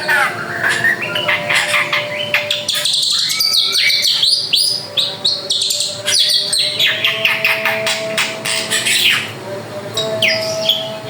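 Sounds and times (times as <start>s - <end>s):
bird singing whistles and chirps: 0.0s - 9.3s.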